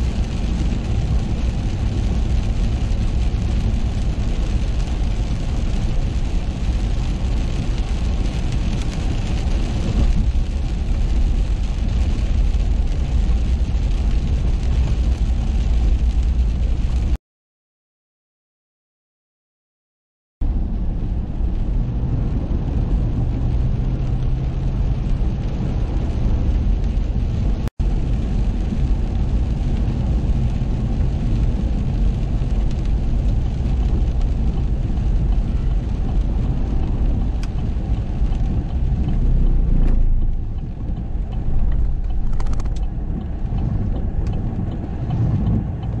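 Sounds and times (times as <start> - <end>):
rain: 0.0 - 17.2, 20.4 - 46.0
vehicle road and engine rumble: 0.0 - 17.2, 20.4 - 46.0.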